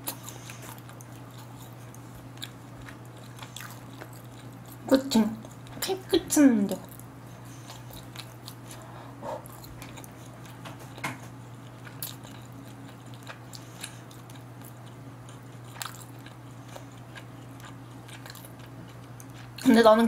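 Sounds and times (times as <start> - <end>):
person chewing food: 0.0 - 5.8, 6.8 - 19.7
steady low hum: 0.0 - 20.0.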